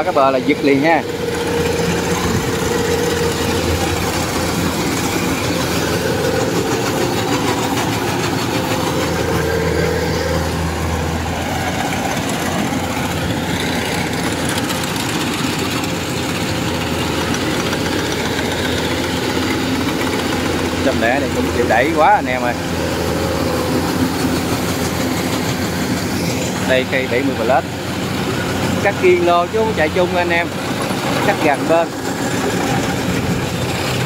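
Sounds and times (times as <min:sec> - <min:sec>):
combine harvester running: 0:00.0 - 0:34.0.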